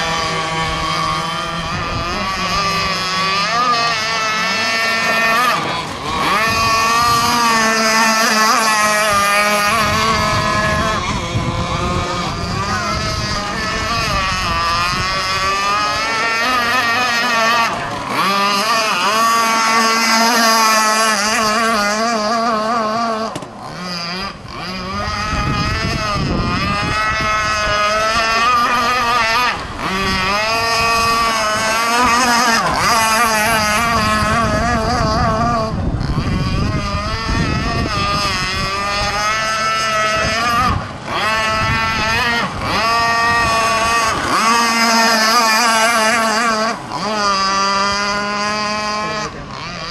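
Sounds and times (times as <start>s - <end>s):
model boat two-stroke engine: 0.0s - 49.9s.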